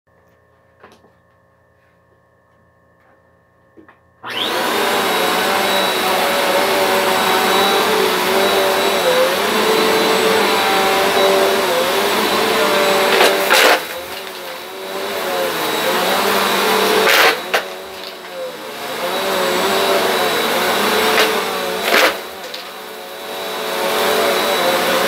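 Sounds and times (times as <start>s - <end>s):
vacuum cleaner motor whining: 4.2s - 25.0s.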